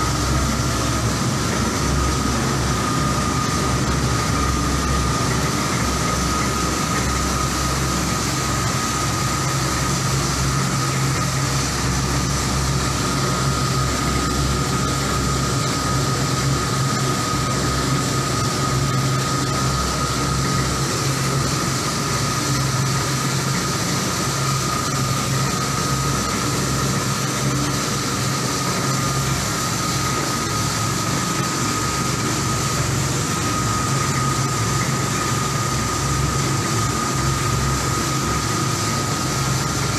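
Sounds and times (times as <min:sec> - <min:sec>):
coffee roaster motors whirring: 0:00.0 - 0:39.9.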